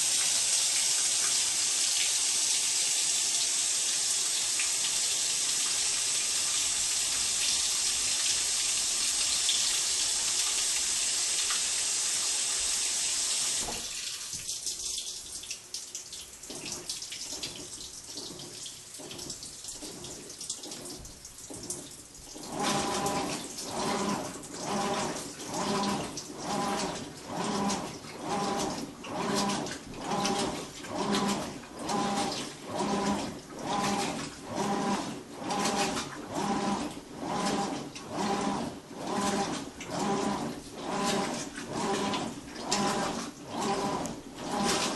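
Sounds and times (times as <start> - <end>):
washer filling with water: 0.0 - 44.9
washer motor rhythmic humming groan: 0.0 - 44.9.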